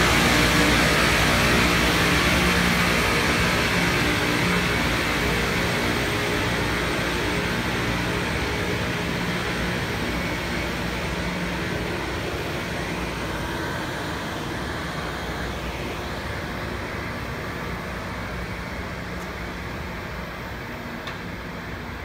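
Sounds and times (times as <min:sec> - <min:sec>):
low diesel engine hum: 0:00.0 - 0:22.0
rail grinding train grinding: 0:00.0 - 0:22.0.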